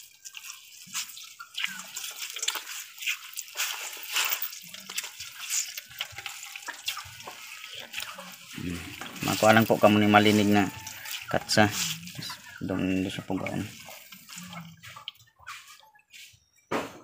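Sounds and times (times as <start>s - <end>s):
juice dripping into a pot: 0.0s - 16.4s.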